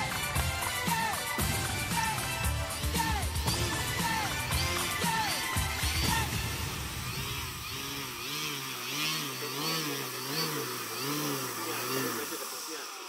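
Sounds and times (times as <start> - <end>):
model aircraft engine running: 0.0 - 13.0.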